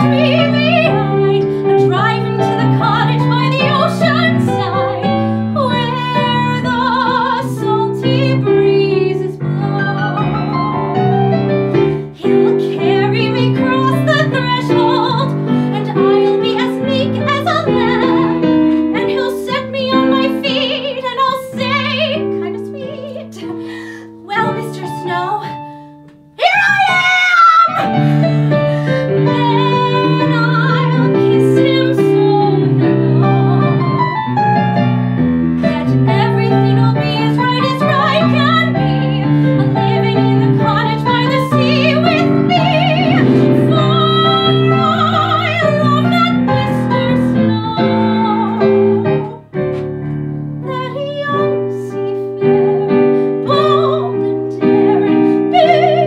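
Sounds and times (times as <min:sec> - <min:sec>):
woman singing with vibrato: 0:00.0 - 0:11.2, 0:12.0 - 0:25.7, 0:26.4 - 0:34.2, 0:35.6 - 0:49.6, 0:50.6 - 0:56.0
piano accompaniment: 0:00.0 - 0:56.0.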